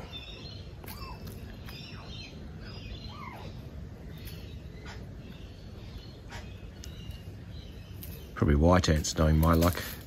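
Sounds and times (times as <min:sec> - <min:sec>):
faint bird chirps: 0:00.0 - 0:08.6
low outdoor rumble: 0:00.0 - 0:10.0.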